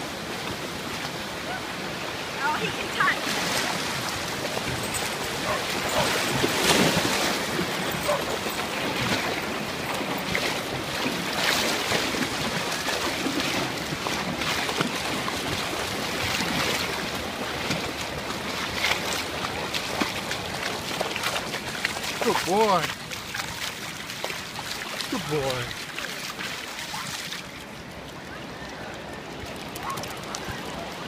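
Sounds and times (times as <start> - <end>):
ocean surf washing: 0.0 - 31.0
dog swimming splashing: 2.4 - 27.6.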